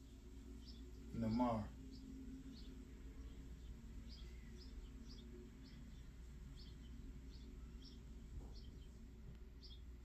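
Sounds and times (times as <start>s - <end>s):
faint bird chirps: 0.0s - 10.0s
low steady hum: 0.0s - 10.0s.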